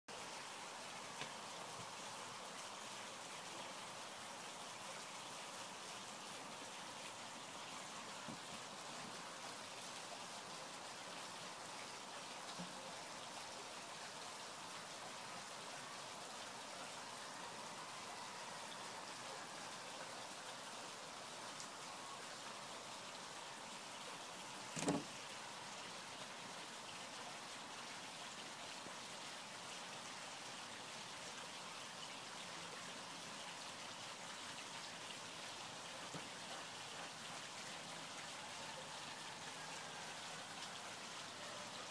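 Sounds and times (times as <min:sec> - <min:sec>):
faint outdoor hiss: 0:00.1 - 0:41.9.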